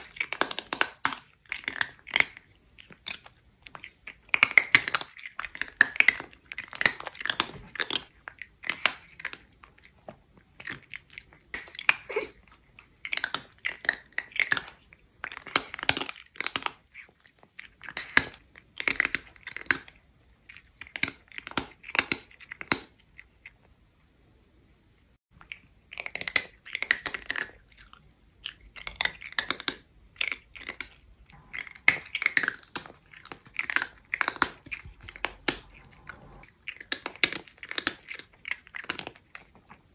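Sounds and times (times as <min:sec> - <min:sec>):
cat crunching dry food: 0:00.0 - 0:23.6, 0:25.4 - 0:39.9.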